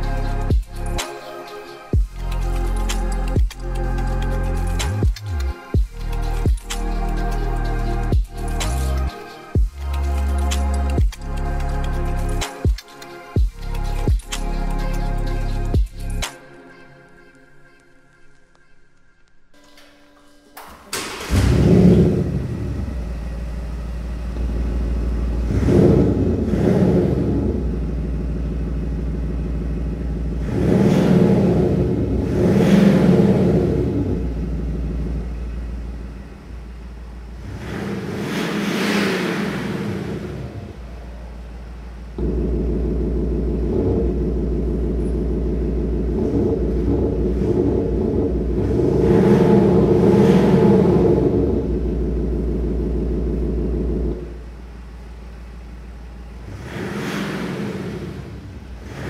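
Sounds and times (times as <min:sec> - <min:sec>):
engine revving and idling: 0:00.0 - 0:01.2, 0:01.8 - 0:16.3, 0:21.0 - 0:59.0
diesel engine starting: 0:00.0 - 0:16.3, 0:20.6 - 0:59.0.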